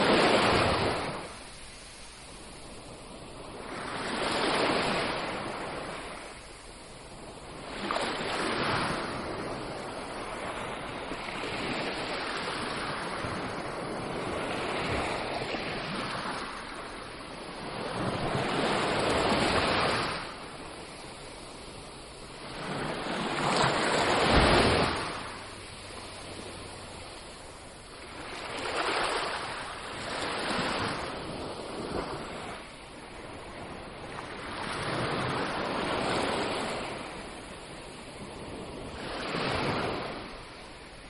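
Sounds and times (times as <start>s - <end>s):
sea waves breaking: 0.0s - 41.0s.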